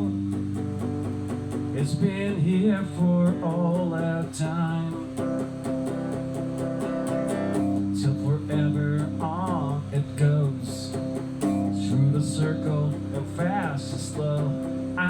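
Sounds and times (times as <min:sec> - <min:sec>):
lead guitar solo: 0:00.0 - 0:15.0
strummed rhythm guitar: 0:00.0 - 0:15.0.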